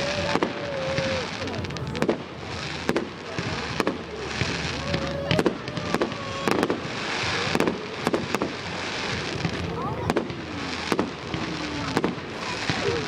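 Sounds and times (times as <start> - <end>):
fireworks bangs: 0.0 - 13.0
steady hiss: 0.0 - 13.0.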